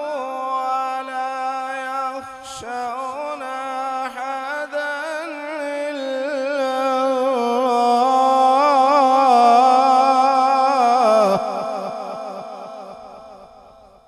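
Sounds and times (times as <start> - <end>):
man reciting melodically: 0.0 - 13.9.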